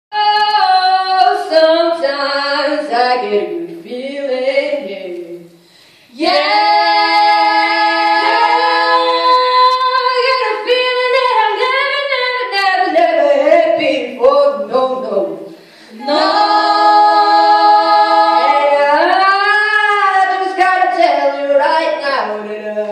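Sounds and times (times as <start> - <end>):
female a cappella group singing: 0.1 - 22.9.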